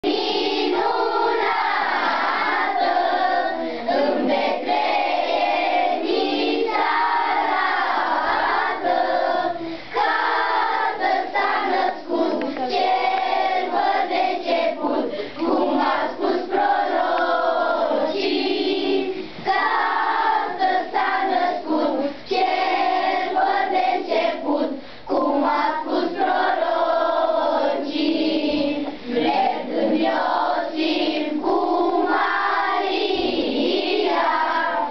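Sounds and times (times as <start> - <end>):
children singing in chorus: 0.0 - 34.9.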